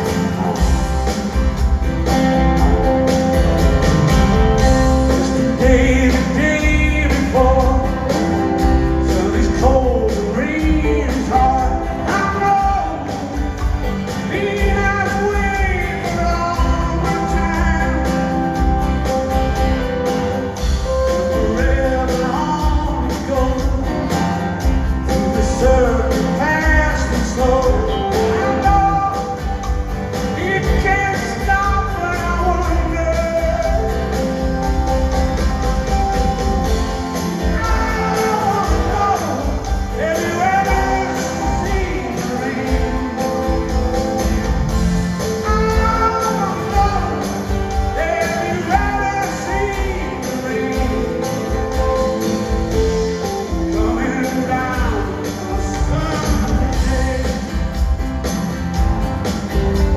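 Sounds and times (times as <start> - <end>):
live rock band playing: 0.0 - 59.9
man singing: 4.3 - 19.3, 20.7 - 58.4.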